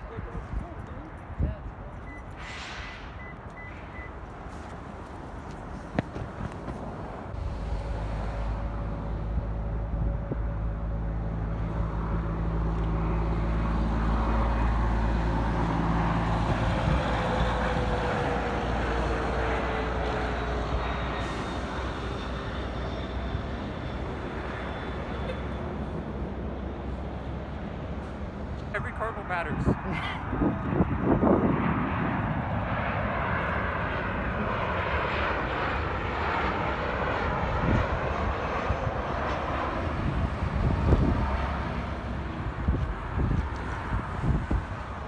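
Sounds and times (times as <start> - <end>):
jet airliner engine noise: 0.0 - 45.0
jet engine whine dropping in pitch: 2.1 - 45.0.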